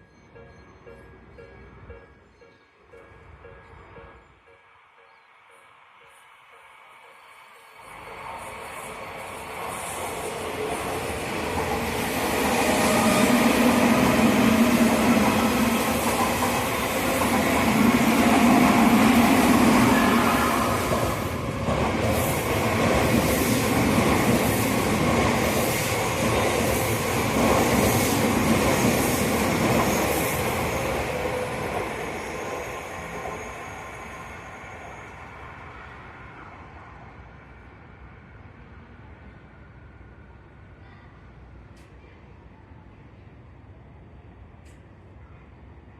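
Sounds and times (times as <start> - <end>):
electric train rumbling past: 0.0 - 40.8.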